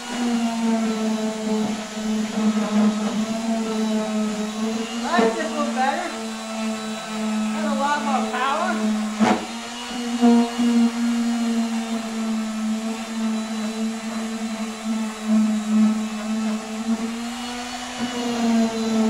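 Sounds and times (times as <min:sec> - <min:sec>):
electric sander on wood: 0:00.0 - 0:19.0.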